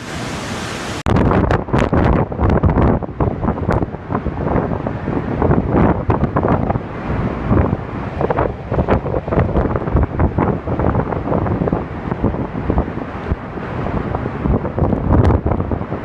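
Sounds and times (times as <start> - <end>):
wind blasting the microphone: 0.0 - 16.0.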